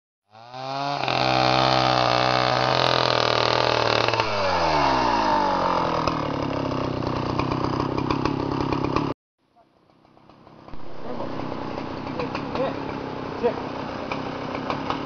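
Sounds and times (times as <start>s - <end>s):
chainsaw revving and idling: 0.3s - 9.2s, 10.0s - 15.0s.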